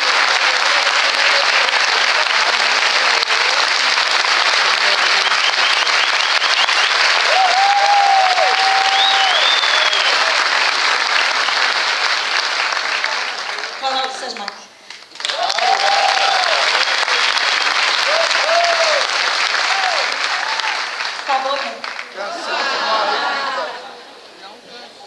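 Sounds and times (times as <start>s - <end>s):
large audience applauding: 0.0s - 23.8s.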